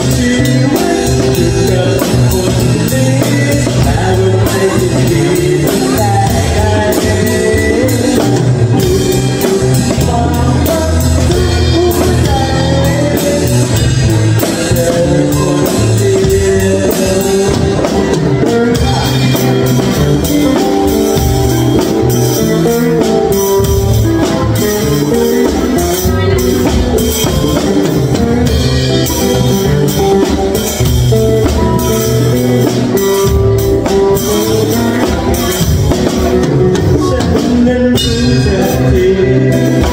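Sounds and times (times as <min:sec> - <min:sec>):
drum kit with cymbals: 0:00.0 - 0:39.9
person singing: 0:00.0 - 0:39.9.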